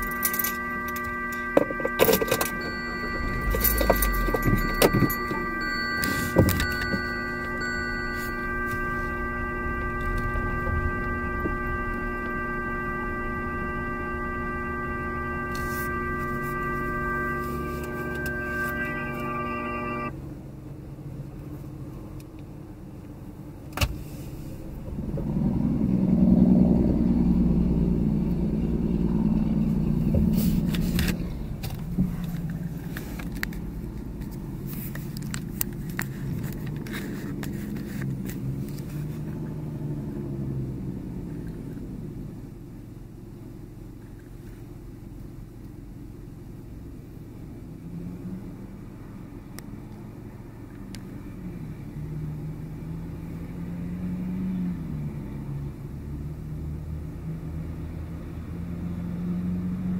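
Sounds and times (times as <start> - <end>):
engine rumble: 0.0 - 59.9.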